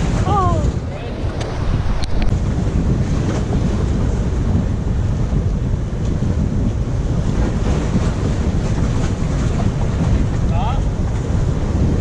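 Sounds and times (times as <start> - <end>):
surf washing against rocks: 0.0 - 12.0
wind rumble on microphone: 0.0 - 12.0.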